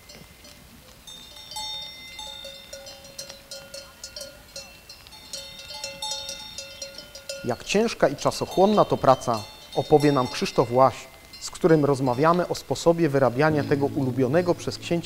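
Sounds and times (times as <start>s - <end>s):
sheep bells clanking: 0.0s - 15.0s.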